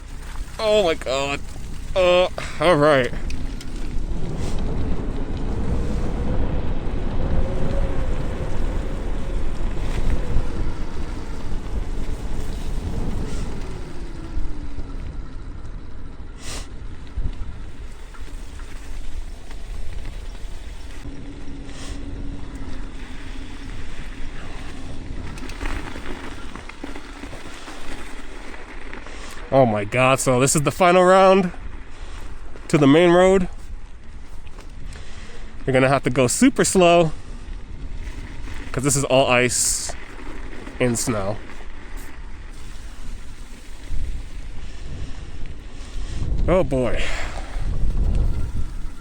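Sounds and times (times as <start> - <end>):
wind buffeting microphone: 0.0 - 35.7, 36.6 - 49.0.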